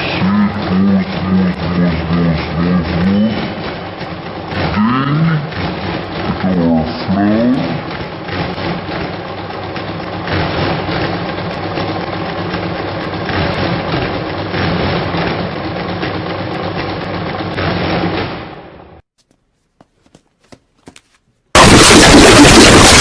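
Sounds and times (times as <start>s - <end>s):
engine running with rough drone: 0.0s - 19.0s, 21.6s - 23.0s.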